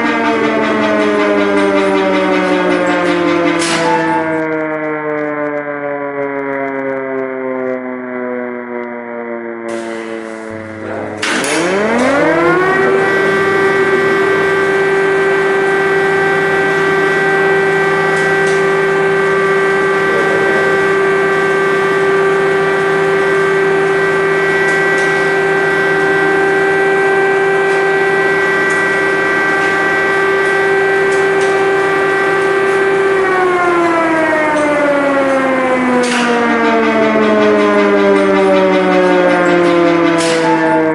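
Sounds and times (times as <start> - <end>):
civil defence siren wailing: 0.0 - 40.9.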